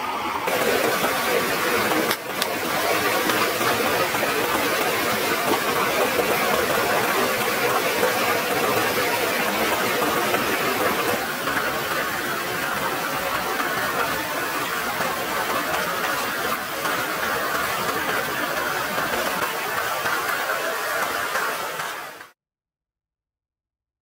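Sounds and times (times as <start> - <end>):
stream rushing over rocks: 0.5 - 22.2.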